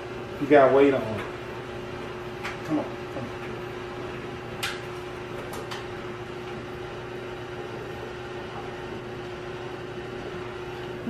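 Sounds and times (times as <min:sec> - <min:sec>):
steady appliance hum: 0:00.0 - 0:11.0.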